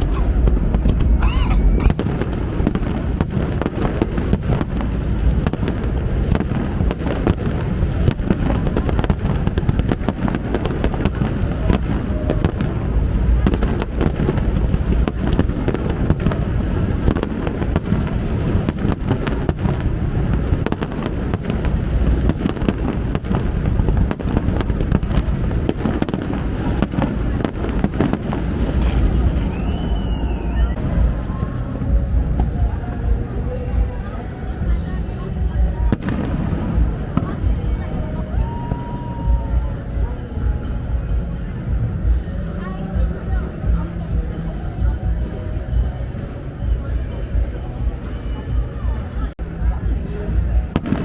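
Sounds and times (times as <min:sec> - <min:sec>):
fireworks booming and crackling: 0:00.0 - 0:48.0, 0:49.3 - 0:51.0.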